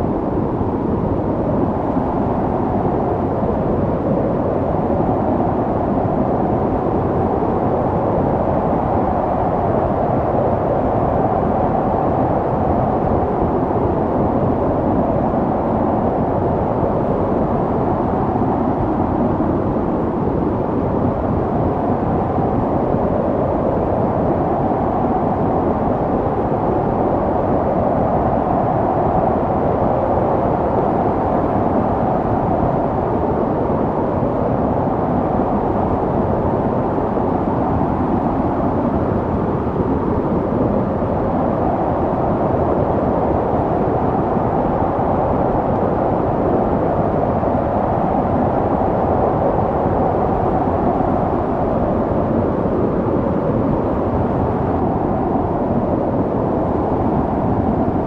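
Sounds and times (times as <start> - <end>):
howling wind: 0.0 - 58.0.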